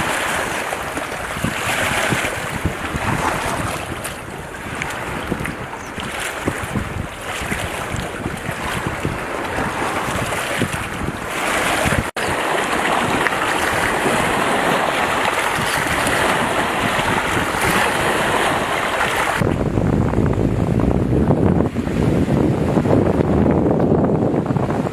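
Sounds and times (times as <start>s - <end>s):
rushing water: 0.0s - 24.9s
wind buffeting microphone: 0.0s - 24.9s.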